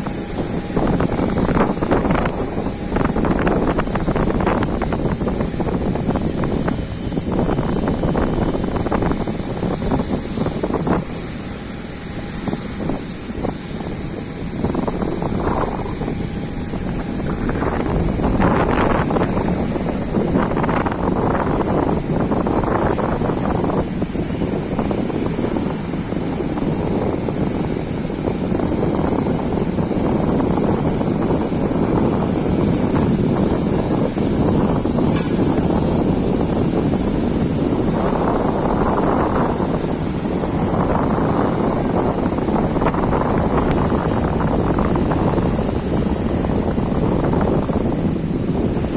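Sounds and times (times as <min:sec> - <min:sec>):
faint steady hum: 0:00.0 - 0:48.9
gusty wind buffeting microphone: 0:00.0 - 0:48.9.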